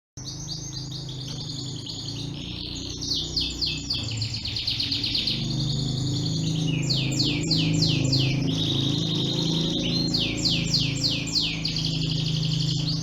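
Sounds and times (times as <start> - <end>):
canary singing: 0.2 - 13.0
low steady hum: 0.2 - 13.0.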